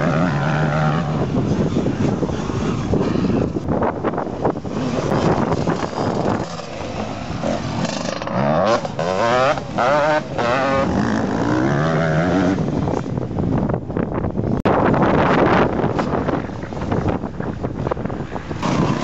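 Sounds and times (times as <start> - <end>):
motocross bike engines revving: 0.0 - 13.2, 15.4 - 19.0.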